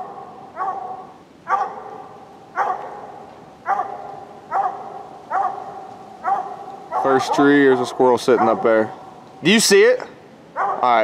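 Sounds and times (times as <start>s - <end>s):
hound barking: 0.0s - 9.3s, 10.5s - 11.0s.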